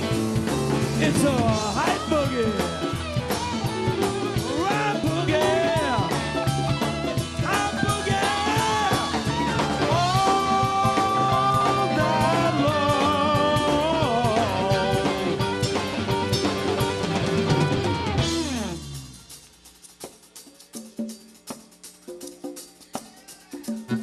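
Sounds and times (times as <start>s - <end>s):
electric lead guitar bending notes: 0.0s - 19.3s
live rock band playing: 0.0s - 24.0s.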